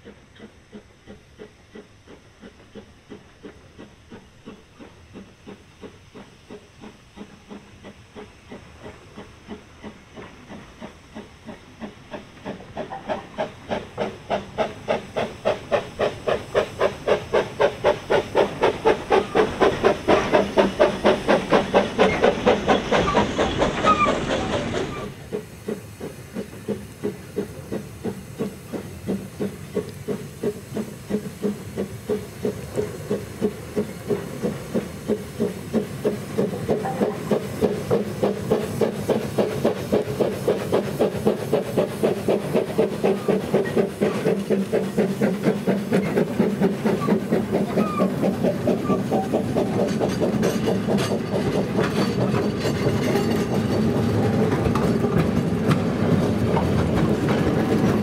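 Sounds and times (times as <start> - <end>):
hissing steam: 0.0 - 58.0
steam locomotive exhaust chuffing: 0.0 - 58.0.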